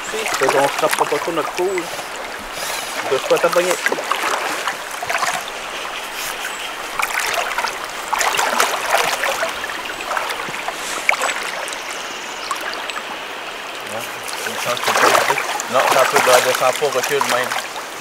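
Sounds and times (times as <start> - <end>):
shallow river water running: 0.0 - 18.0
splashing of people wading: 0.0 - 18.0.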